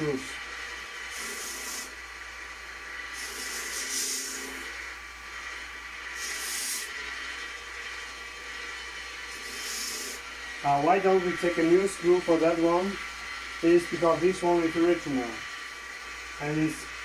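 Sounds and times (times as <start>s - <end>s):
short hissing strokes: 0.0s - 17.0s.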